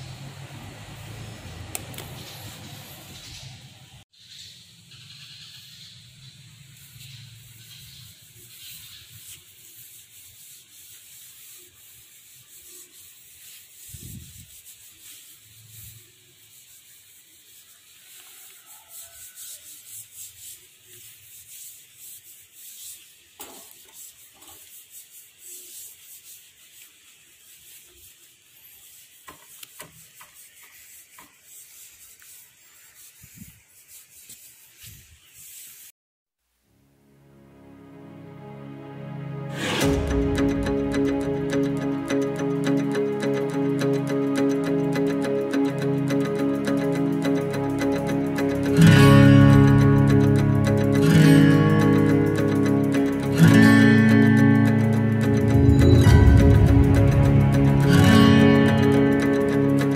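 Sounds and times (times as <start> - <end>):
cloth rubbing metal pipes: 6.8 - 35.9, 39.5 - 59.9.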